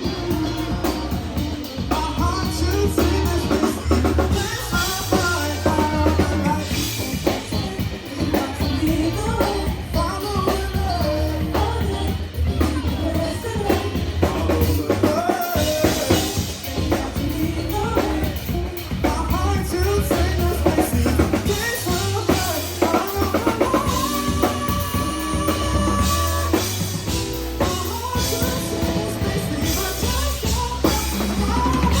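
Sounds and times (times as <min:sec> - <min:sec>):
drum kit and bass: 0:00.0 - 0:32.0
person singing: 0:00.0 - 0:32.0.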